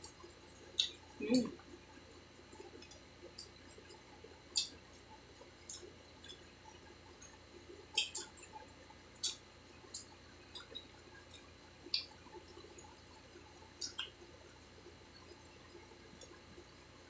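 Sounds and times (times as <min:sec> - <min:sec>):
chewing with wet smacks: 0:00.0 - 0:17.0.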